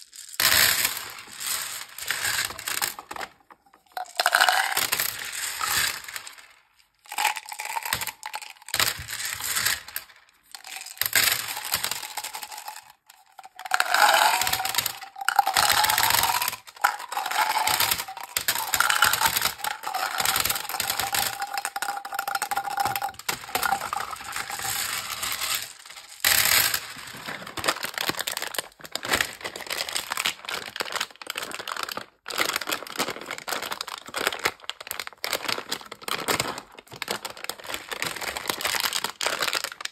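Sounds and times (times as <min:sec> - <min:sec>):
plastic caps being worked: 0:00.0 - 0:39.9
sweets rattling in plastic containers: 0:00.0 - 0:39.9
plastic wrapper crinkling: 0:02.3 - 0:05.2, 0:07.0 - 0:09.0, 0:10.6 - 0:39.9.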